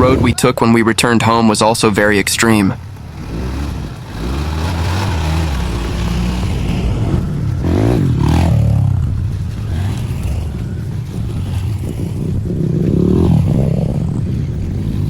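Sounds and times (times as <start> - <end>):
vehicle engine revving: 1.6 - 15.0.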